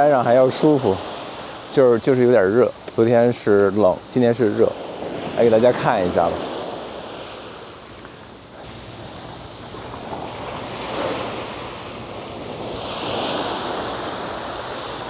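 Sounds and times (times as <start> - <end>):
waves breaking on a beach: 0.0 - 15.0
wind rumbling on the microphone: 0.0 - 15.0.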